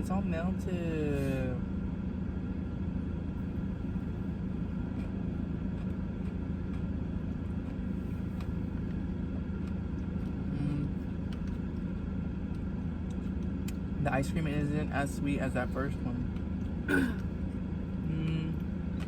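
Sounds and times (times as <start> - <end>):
idling car rumble: 0.0 - 19.0.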